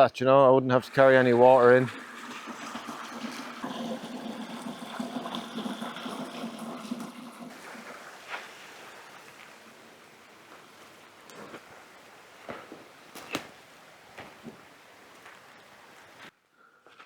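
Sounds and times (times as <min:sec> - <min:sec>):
stream running and gurgling: 0:00.8 - 0:16.3.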